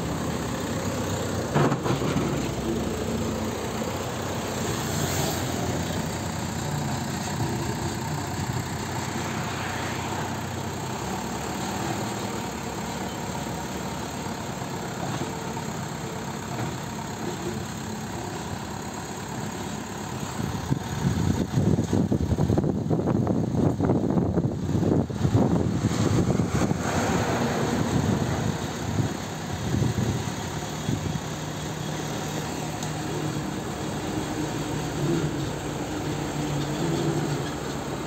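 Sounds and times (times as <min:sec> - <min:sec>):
diesel engine idling: 0:00.0 - 0:38.0
rough low engine rumble: 0:00.0 - 0:38.0.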